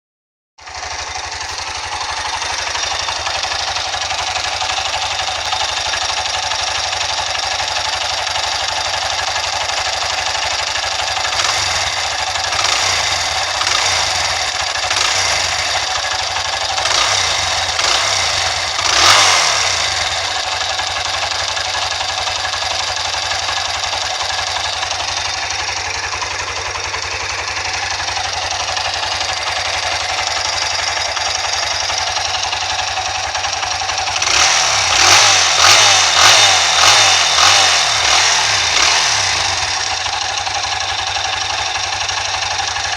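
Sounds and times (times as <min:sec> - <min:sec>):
motorcycle engine running: 0:00.6 - 0:42.9
engine revving: 0:00.8 - 0:42.9.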